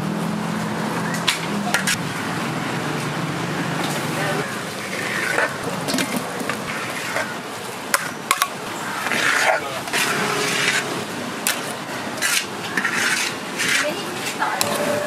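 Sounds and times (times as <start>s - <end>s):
steady background noise: 0.0s - 15.0s
indistinct voices: 1.0s - 15.0s.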